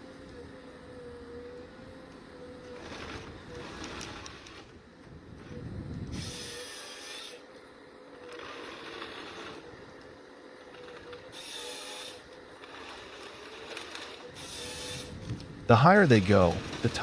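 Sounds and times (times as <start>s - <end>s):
faint wavering whine: 0.0s - 17.0s
rasping bursts: 2.6s - 17.0s.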